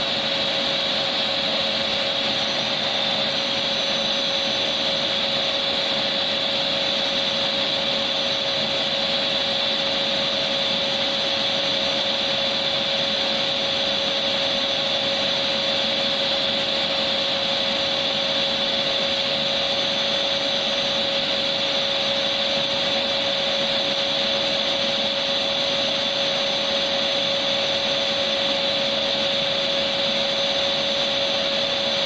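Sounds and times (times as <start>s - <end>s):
vacuum cleaner motor running: 0.0s - 32.0s.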